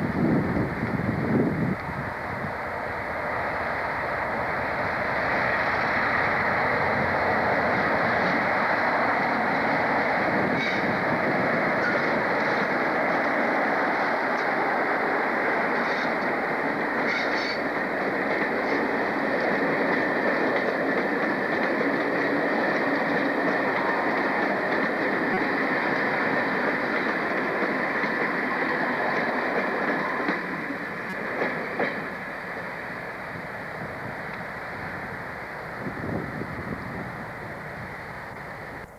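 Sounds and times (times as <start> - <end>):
train running on track: 0.0 - 38.9.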